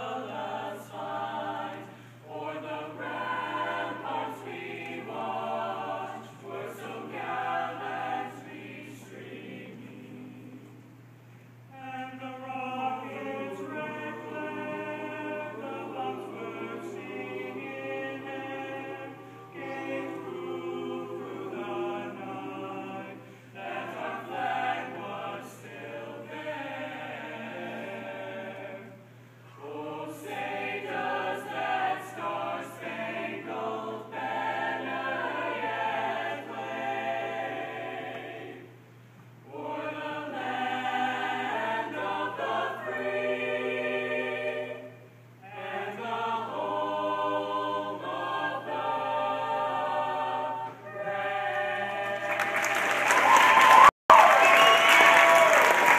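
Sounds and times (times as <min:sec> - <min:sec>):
choir singing a cappella: 0:00.0 - 0:11.1, 0:11.7 - 0:53.9.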